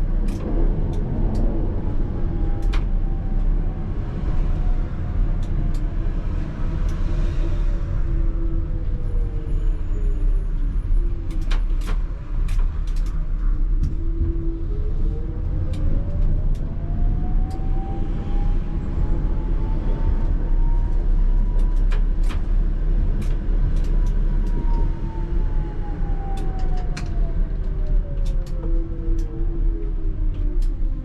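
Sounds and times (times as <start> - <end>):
tram motor whine: 0.0 - 31.0
wheels rumbling on rail: 0.0 - 31.0.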